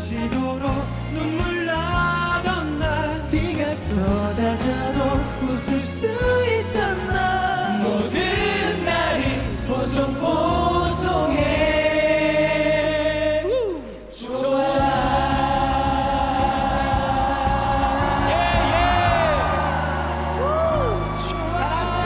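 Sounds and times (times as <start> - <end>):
backing music: 0.0 - 22.0
group singing pop song: 0.0 - 22.0.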